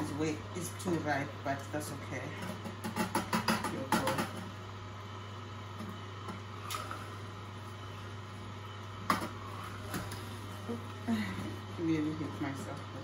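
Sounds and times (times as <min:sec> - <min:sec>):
slow juicer humming: 0:00.0 - 0:13.0.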